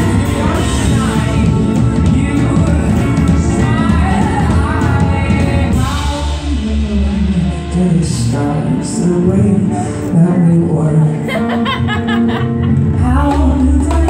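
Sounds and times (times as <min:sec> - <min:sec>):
voices singing: 0:00.0 - 0:11.7
acoustic guitar: 0:00.0 - 0:14.0
drums: 0:00.0 - 0:14.0.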